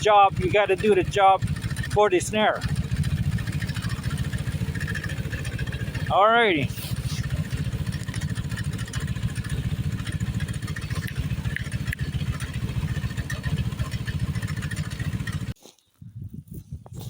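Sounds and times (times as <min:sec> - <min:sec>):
small engine pulsing: 0:00.0 - 0:15.6.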